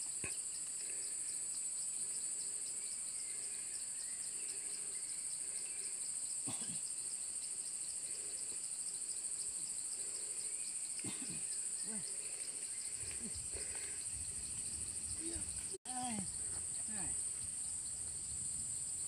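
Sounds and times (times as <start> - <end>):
high-pitched insect chorus: 0.0 - 19.0
pulsing insect call: 0.0 - 19.0.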